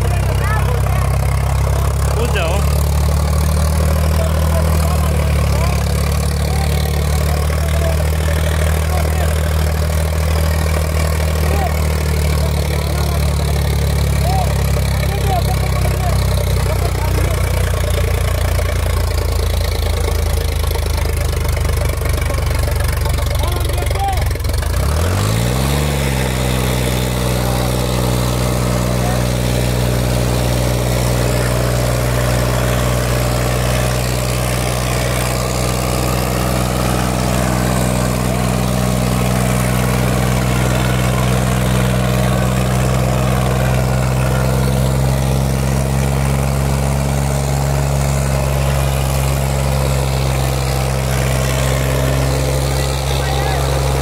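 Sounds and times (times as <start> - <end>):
tractor diesel engine at high revs: 0.0 - 54.0.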